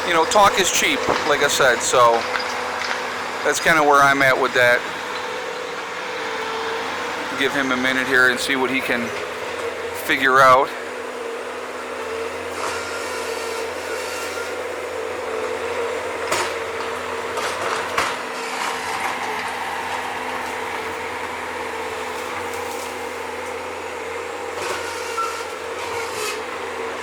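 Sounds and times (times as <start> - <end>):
digging machine engine running: 0.0 - 27.0
hydraulic hum: 0.0 - 27.0.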